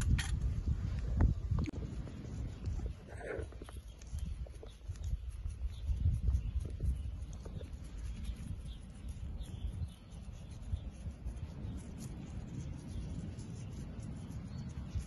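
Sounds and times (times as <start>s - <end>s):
wind rumble on microphone: 0.0s - 15.0s
faint bird chirps: 1.9s - 15.0s.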